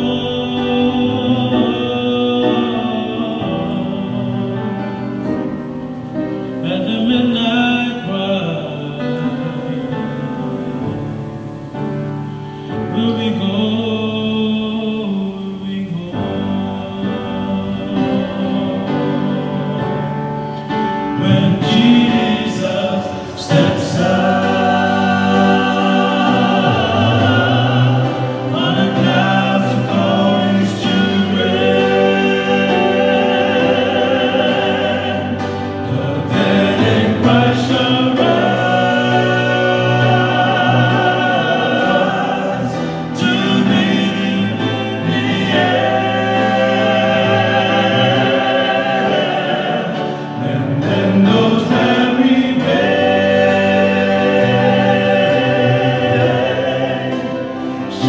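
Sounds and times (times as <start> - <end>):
male vocal quartet singing gospel: 0.0 - 58.0.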